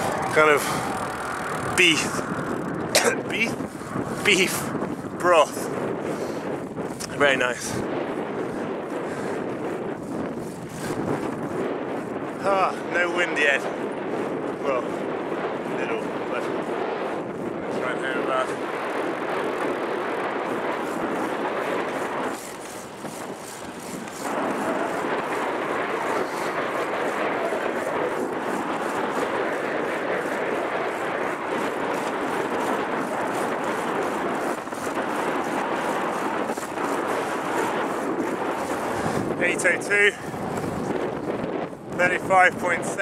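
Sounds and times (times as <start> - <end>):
air rushing over microphone: 0.0 - 43.0.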